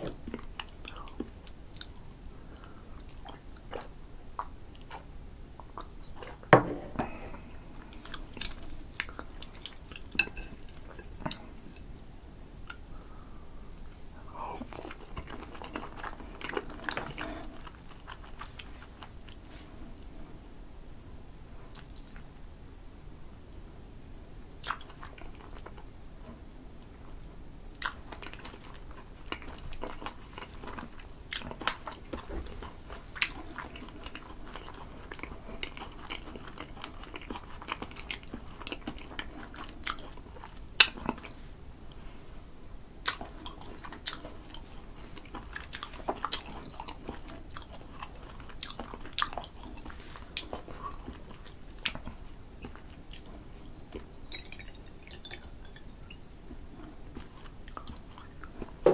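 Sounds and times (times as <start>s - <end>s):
close chewing with mouth smacks: 0.0s - 6.5s, 7.8s - 12.9s, 14.6s - 19.7s, 21.1s - 22.3s, 24.6s - 25.9s, 27.7s - 42.0s, 43.0s - 58.8s.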